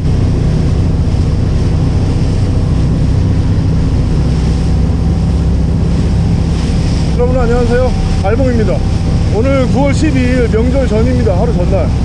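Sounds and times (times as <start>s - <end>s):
boat engine running: 0.0s - 12.0s
water rushing past hull: 0.0s - 12.0s
wind buffeting microphone: 0.0s - 12.0s.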